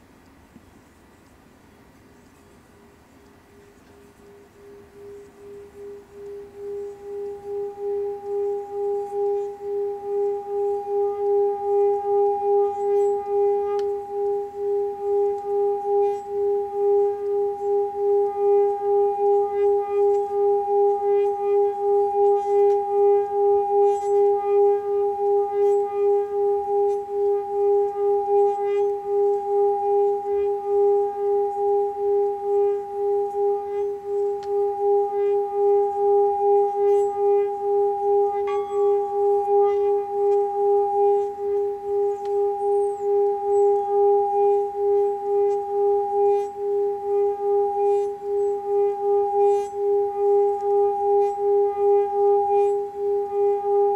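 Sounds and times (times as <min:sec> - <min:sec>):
singing bowl tone: 0:02.4 - 0:53.9
higher metallic ring: 0:04.8 - 0:53.9.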